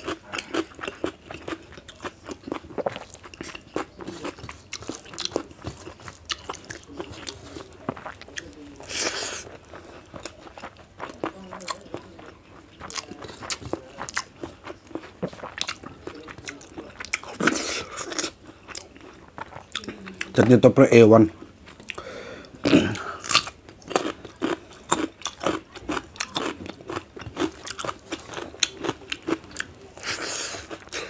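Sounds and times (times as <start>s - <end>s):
person chewing crunchy food: 0.0s - 20.6s, 21.3s - 31.0s.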